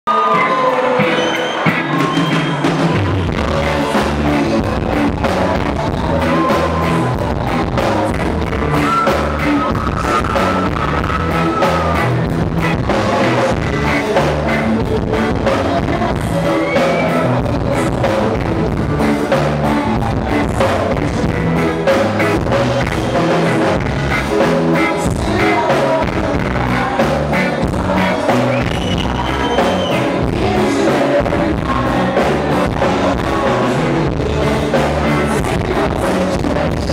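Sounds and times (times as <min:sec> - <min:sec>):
man singing into microphone: 0:00.1 - 0:02.6, 0:03.2 - 0:36.9
electric guitar: 0:00.1 - 0:36.9
reggae rock band playing: 0:00.1 - 0:36.9
drum kit beat: 0:00.3 - 0:36.9
pulsing bass line: 0:01.0 - 0:36.9.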